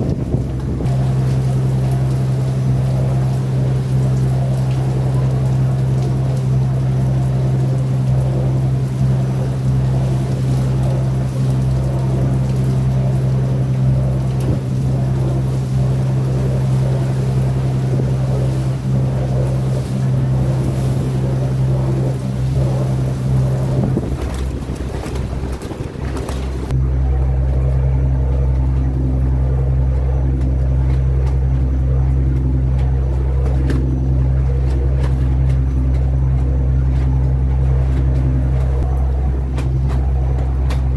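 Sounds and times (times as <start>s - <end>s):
boat engine droning: 0.0s - 40.9s
water rushing: 0.0s - 40.9s
wind: 0.0s - 40.9s.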